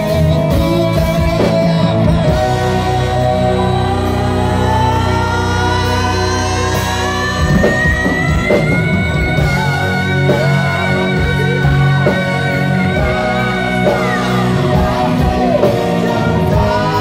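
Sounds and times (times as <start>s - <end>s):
live rock band playing: 0.0s - 17.0s
male lead vocal: 0.0s - 17.0s.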